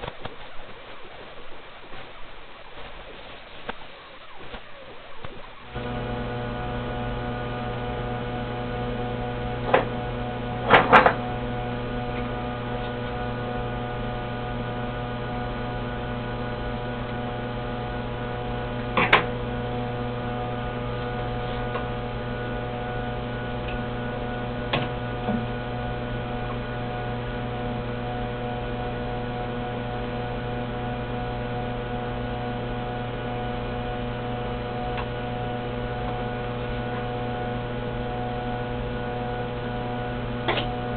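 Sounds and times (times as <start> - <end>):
punch machine humming: 3.9 - 40.9.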